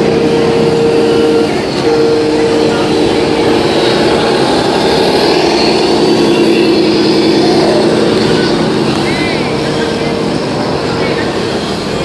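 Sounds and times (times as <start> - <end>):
simulated diesel engine sound: 0.0 - 12.0.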